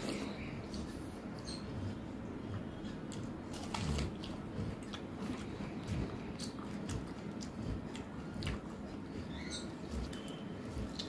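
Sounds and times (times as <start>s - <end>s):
chewing and lip smacks: 0.0s - 11.0s.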